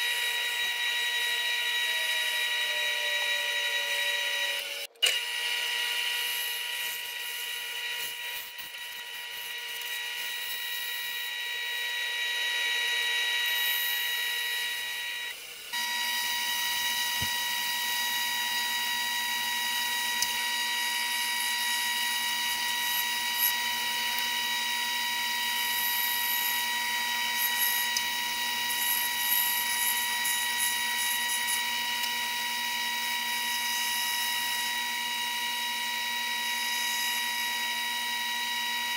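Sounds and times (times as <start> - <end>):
bandsaw whining: 0.0 - 38.9.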